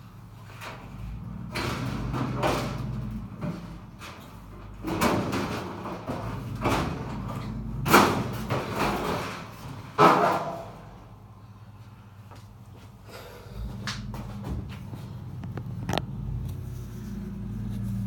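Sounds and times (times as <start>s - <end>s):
metal scraping and bumping: 0.3s - 11.2s, 13.6s - 18.0s.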